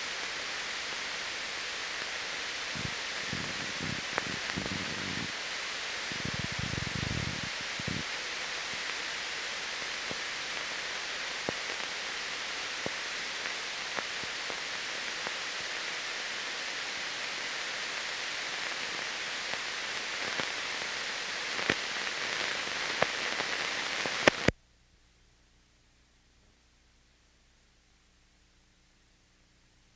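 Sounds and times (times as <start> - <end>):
film soundtrack surface hiss: 0.0 - 29.9.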